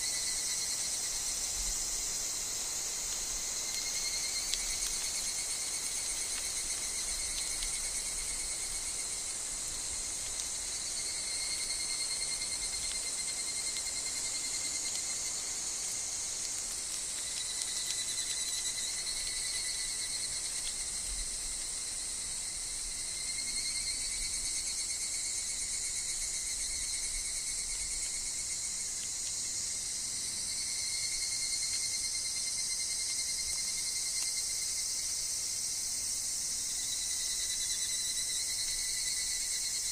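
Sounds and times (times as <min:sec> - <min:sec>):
cicadas and insects shrilling: 0:00.0 - 0:39.9.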